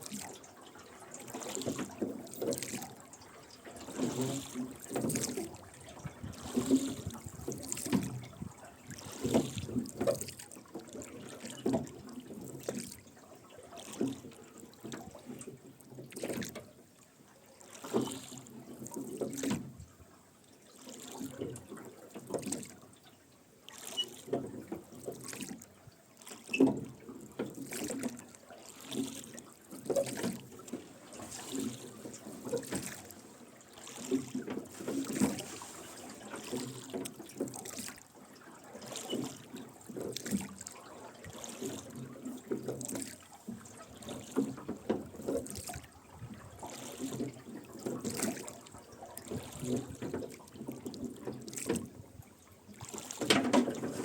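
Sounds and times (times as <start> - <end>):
oars splashing in water: 0.0 - 54.0.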